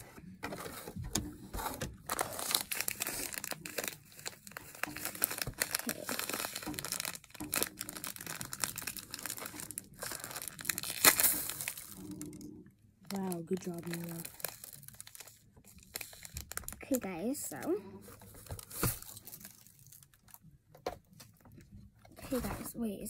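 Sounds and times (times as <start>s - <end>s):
plastic packet crinkling: 0.5s - 20.5s.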